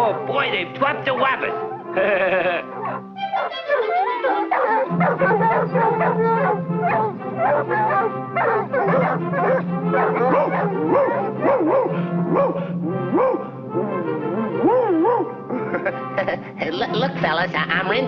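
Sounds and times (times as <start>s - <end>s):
orchestral music: 0.0s - 18.0s
cartoon dogs barking and howling: 1.1s - 15.8s.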